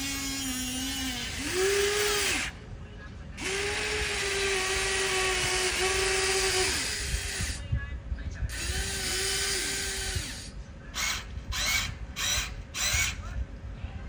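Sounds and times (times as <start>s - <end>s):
small electric motors whining: 0.0s - 2.6s, 3.4s - 7.6s, 8.5s - 13.3s.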